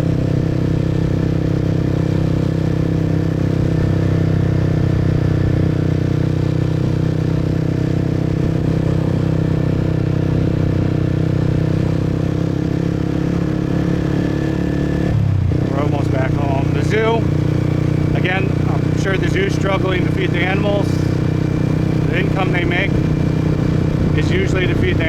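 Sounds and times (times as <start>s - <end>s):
motorbike engine cruising: 0.0s - 25.0s
road noise: 0.0s - 25.0s.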